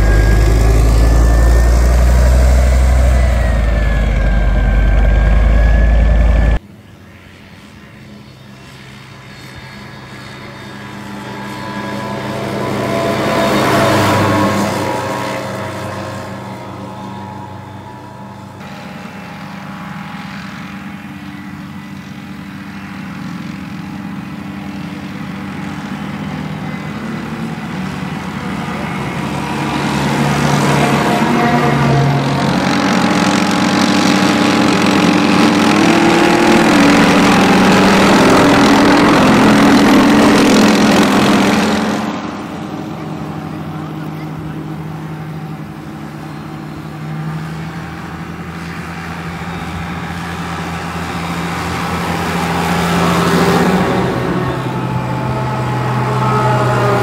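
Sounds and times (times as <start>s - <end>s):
tracked vehicle engines passing: 0.0s - 57.0s.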